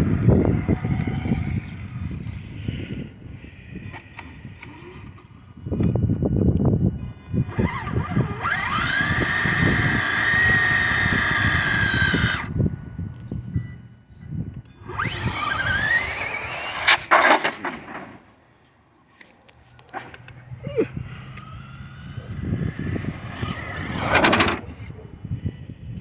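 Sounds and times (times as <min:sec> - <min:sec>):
electric motor whining: 0:00.0 - 0:13.5, 0:14.6 - 0:18.2, 0:19.9 - 0:26.0.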